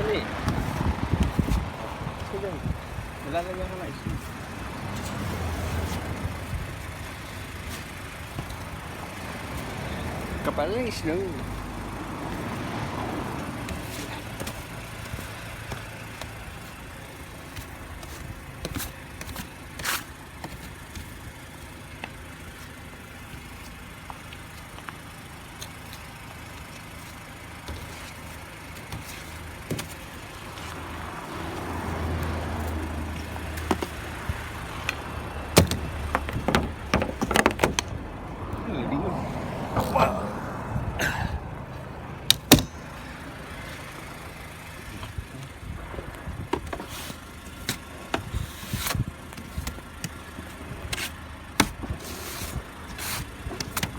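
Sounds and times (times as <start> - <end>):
car engine idling: 0.0 - 53.9.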